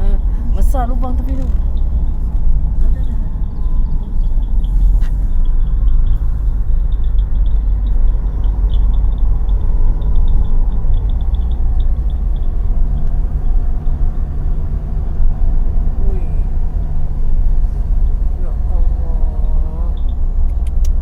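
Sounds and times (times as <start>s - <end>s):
car driving low rumble: 0.0s - 21.0s.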